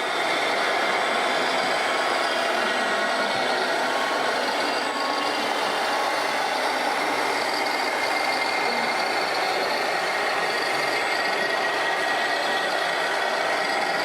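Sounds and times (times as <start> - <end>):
rc truck motor drone: 0.0 - 14.0.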